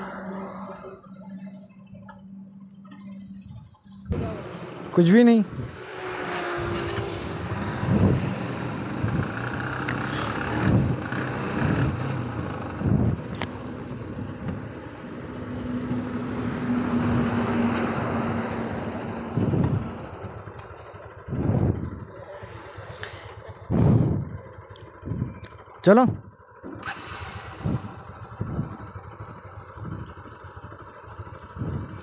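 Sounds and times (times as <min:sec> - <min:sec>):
motorcycle engine running: 0:00.0 - 0:32.0
passing traffic: 0:00.0 - 0:32.0
wind and road noise: 0:00.0 - 0:32.0.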